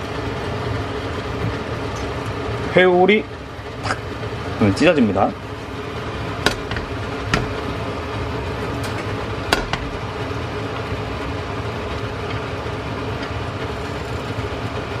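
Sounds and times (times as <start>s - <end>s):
mechanical hum with low rumble: 0.0s - 15.0s.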